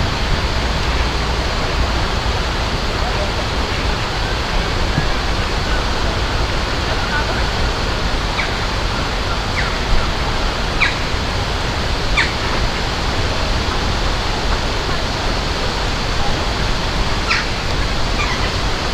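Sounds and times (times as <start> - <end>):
flowing water rushing: 0.0 - 18.9.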